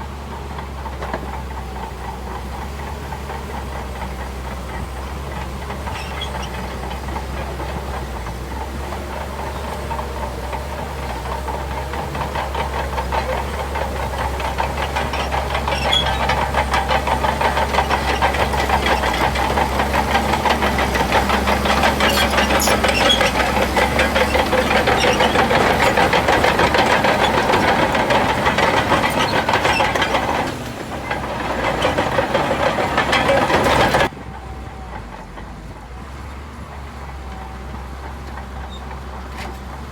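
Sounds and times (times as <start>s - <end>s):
bulldozer diesel engine working hard: 0.0s - 39.9s.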